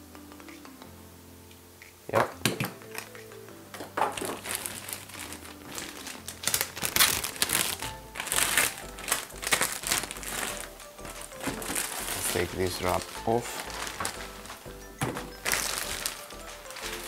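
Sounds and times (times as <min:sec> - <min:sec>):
background music: 0:00.0 - 0:17.0
plastic film crinkling: 0:02.8 - 0:17.0.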